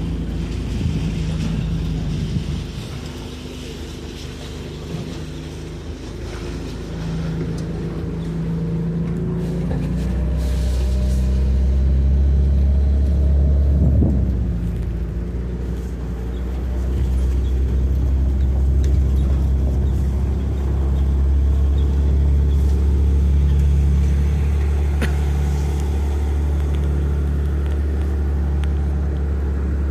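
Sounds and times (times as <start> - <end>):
motor vehicle engine running: 0.0 - 29.9.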